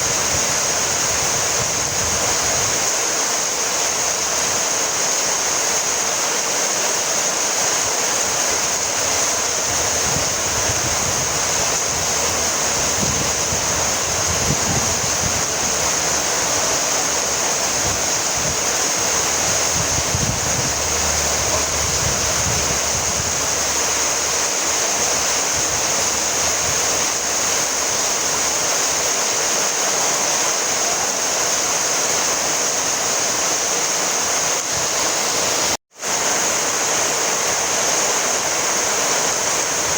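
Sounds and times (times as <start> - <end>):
heavy rainfall hiss: 0.0 - 39.9.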